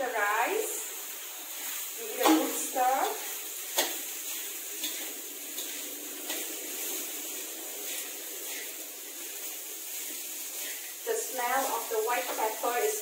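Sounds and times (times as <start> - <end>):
rice sizzling in hot oil: 0.0 - 13.0
metal spatula scraping pan: 1.6 - 12.6.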